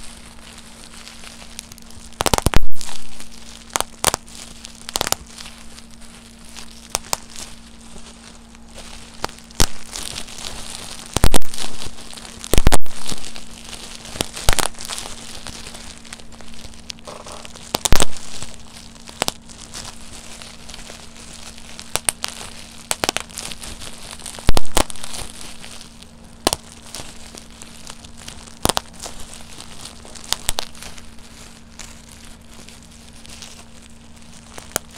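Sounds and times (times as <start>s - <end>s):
bubble wrap popping: 0.0s - 34.9s
plastic sheet crinkling: 0.0s - 34.9s.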